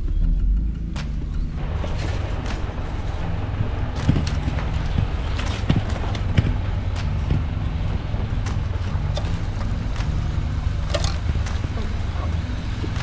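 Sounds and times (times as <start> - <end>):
car engine running: 0.4 - 13.0
branches scraping and snapping: 1.6 - 13.0.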